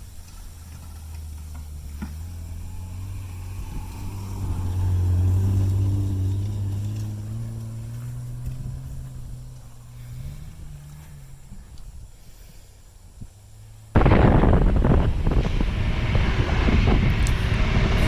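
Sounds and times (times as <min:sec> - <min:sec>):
car engine passing: 0:00.4 - 0:18.0.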